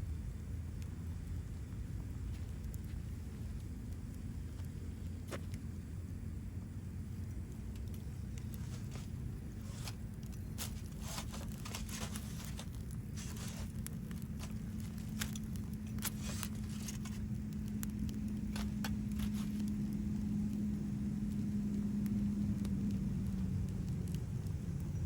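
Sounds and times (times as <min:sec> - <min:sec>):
low steady hum: 0:00.0 - 0:25.0
wood fire crackling: 0:00.0 - 0:25.0
sharp pops and snaps: 0:02.0 - 0:05.8, 0:07.2 - 0:24.9.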